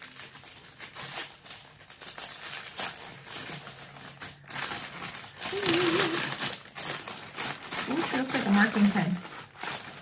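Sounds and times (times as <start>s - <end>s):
gift wrapping crinkling: 0.0s - 10.0s.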